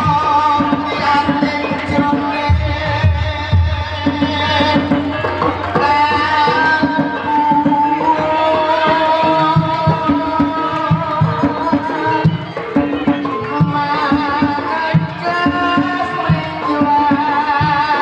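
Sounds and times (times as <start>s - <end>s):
hand drums beating: 0.0s - 18.0s.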